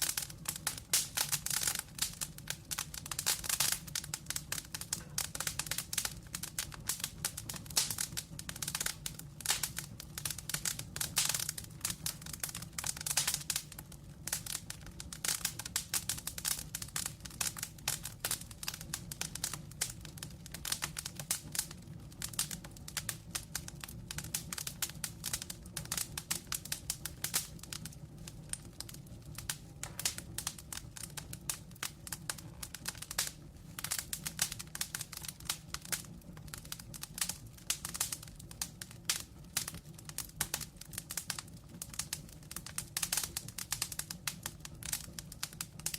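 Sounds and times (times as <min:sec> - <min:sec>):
fire pops and snaps: 0:00.0 - 0:45.9
low rumble of flames: 0:00.0 - 0:45.9.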